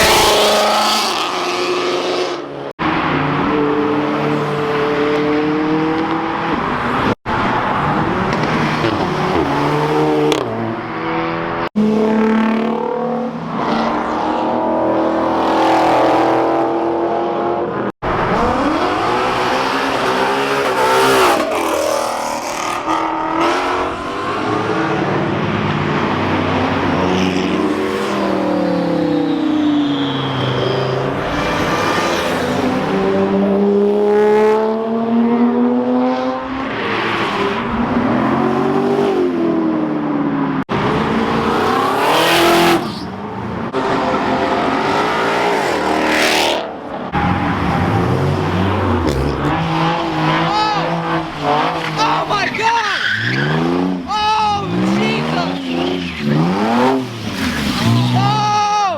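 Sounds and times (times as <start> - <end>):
car engines revving past: 0.0 - 52.3, 53.0 - 58.4.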